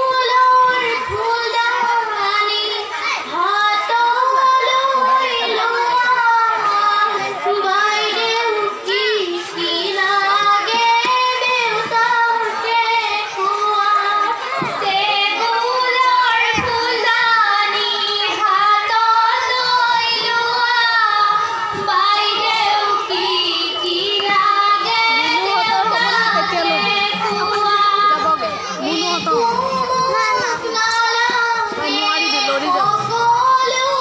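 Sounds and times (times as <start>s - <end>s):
girls singing into microphones: 0.0s - 34.0s.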